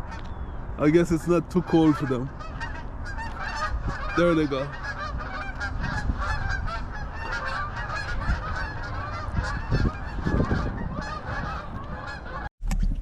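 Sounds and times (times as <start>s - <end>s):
geese honking: 0.0s - 12.5s.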